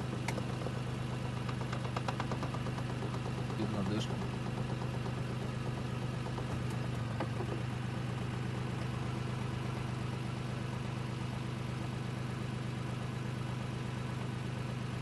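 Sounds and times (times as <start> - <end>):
car humming with fast pulsing: 0.0 - 15.0.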